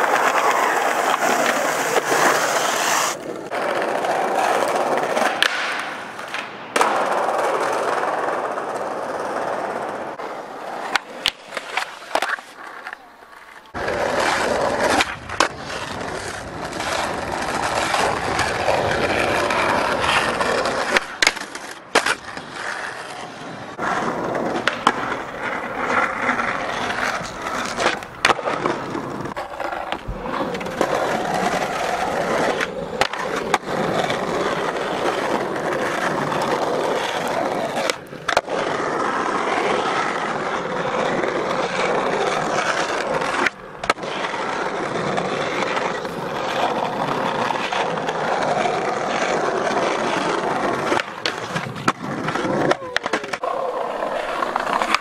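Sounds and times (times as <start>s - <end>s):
skateboard pops and landing slaps: 0.0s - 8.9s, 10.2s - 40.5s, 41.1s - 55.0s
skateboard wheels rolling on concrete: 0.0s - 55.0s.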